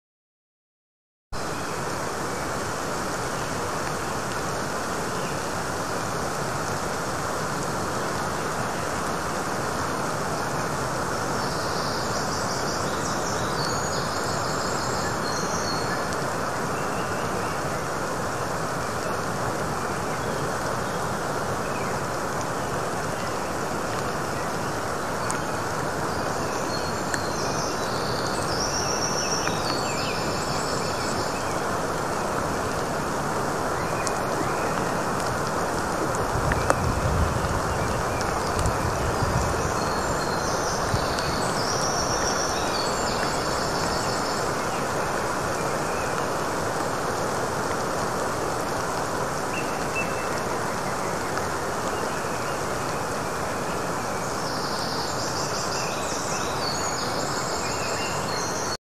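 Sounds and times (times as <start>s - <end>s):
steady rain hiss: 1.4s - 58.8s.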